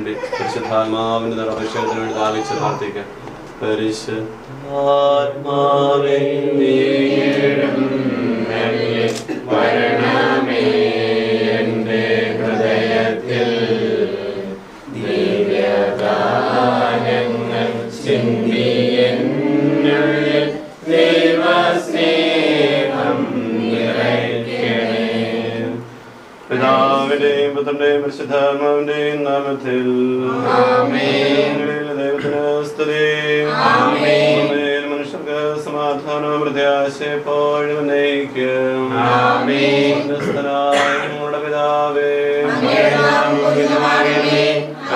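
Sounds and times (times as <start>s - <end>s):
group singing a hymn: 0.0s - 2.8s, 3.6s - 44.9s.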